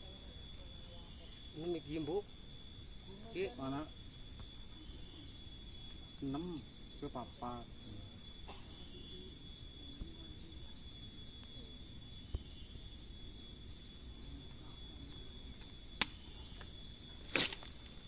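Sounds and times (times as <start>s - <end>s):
high-pitched whine: 0.0s - 18.0s
insects chirping: 0.0s - 18.0s.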